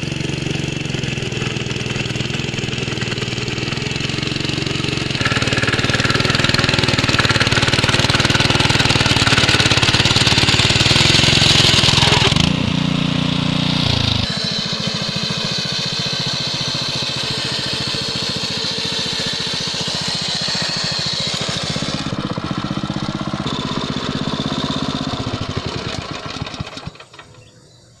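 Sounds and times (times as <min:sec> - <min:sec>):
cultivator engine running: 0:00.0 - 0:27.7.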